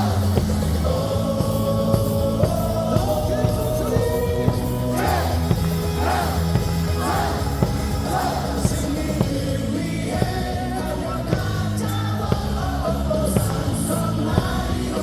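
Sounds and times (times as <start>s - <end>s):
amplified music with steady beat: 0.0s - 15.0s
stadium crowd singing: 0.0s - 15.0s.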